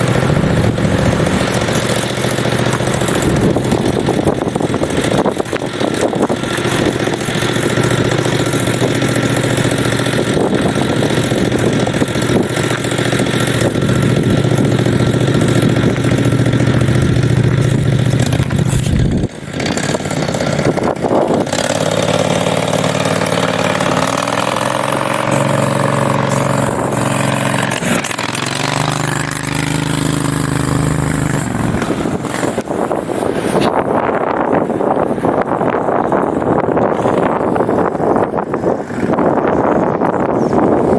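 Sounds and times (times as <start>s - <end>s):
mini bike engine revving: 0.0s - 40.9s.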